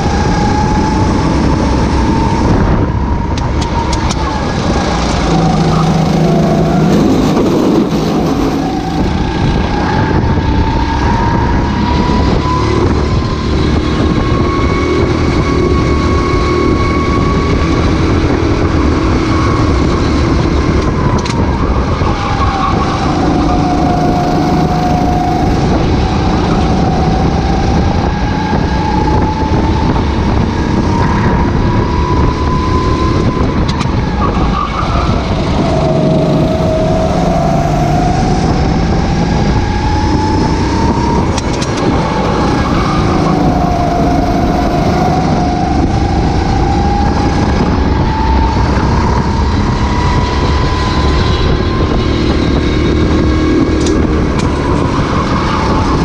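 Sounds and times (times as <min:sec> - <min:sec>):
racing kart engine: 0:00.0 - 0:56.0
wind rushing: 0:00.0 - 0:56.0.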